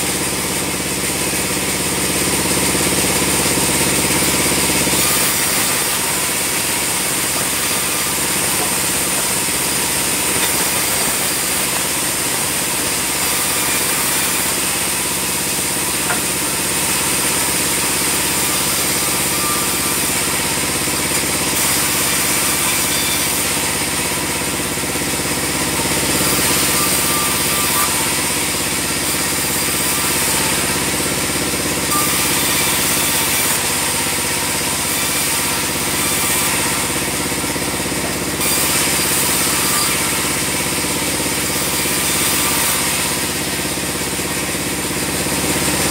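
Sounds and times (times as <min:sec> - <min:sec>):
band sawmill droning: 0:00.0 - 0:45.9.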